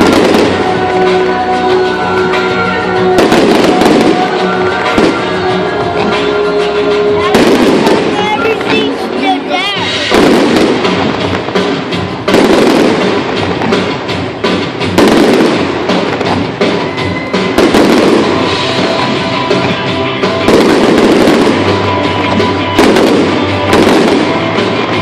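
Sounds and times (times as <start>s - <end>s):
rumble of firework bursts: 0.0s - 6.1s, 6.7s - 25.0s
fireworks bangs: 0.0s - 25.0s
music playing: 0.0s - 25.0s.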